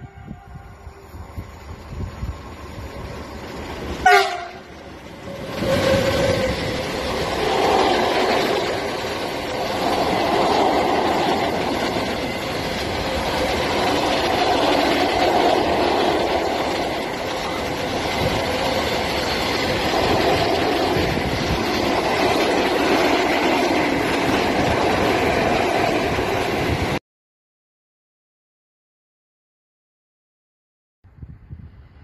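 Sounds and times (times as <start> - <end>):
train wheels running on rails: 0.0 - 27.0.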